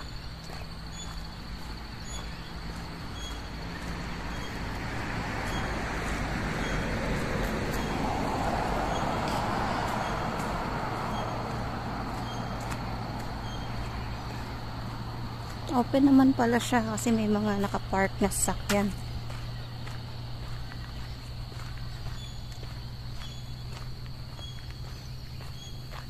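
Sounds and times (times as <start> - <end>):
road vehicle driving past: 0.0 - 26.0.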